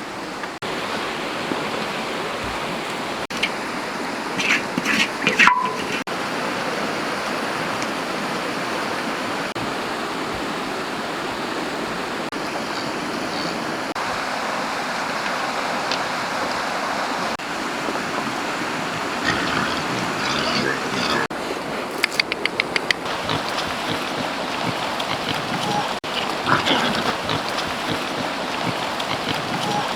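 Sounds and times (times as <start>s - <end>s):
stream water rushing: 0.0s - 29.9s.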